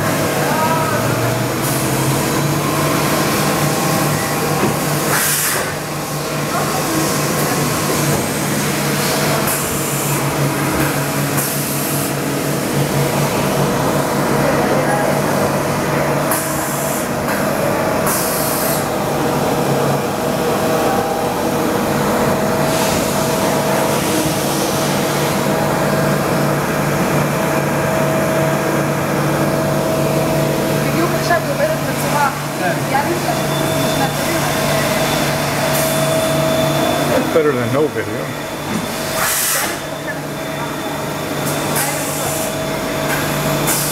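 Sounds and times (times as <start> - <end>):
cnc machine running: 0.0 - 43.9.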